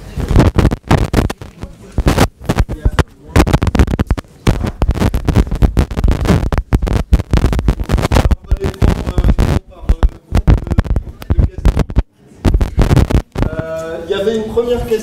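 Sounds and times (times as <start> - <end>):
microphone rubbing against fabric: 0.0 - 13.8.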